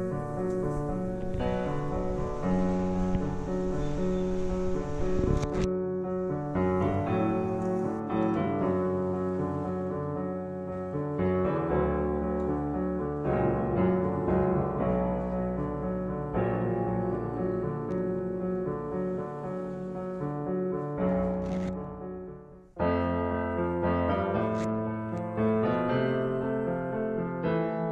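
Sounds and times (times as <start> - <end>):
slow piano chords: 0.0 - 27.9.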